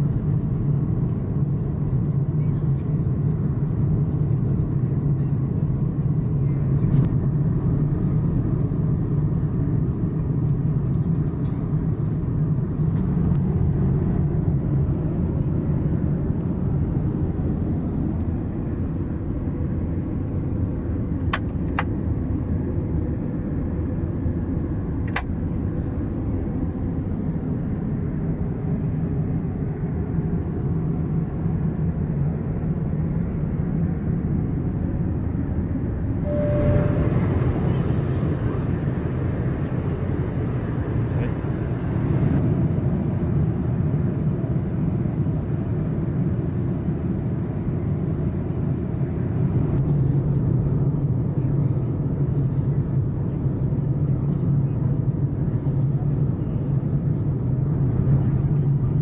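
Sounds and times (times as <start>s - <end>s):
airliner cabin rumble: 0.0s - 21.9s, 32.5s - 59.0s.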